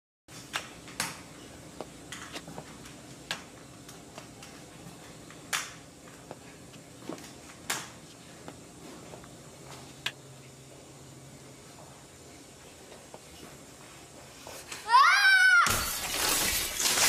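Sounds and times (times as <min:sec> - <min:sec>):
low room hum: 0:00.3 - 0:17.0.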